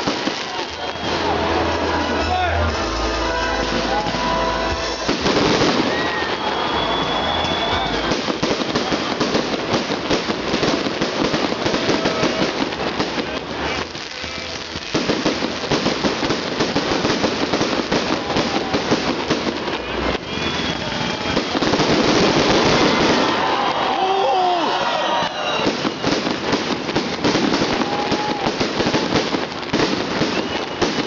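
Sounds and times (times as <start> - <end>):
firecrackers popping and crackling: 0.0 - 31.0.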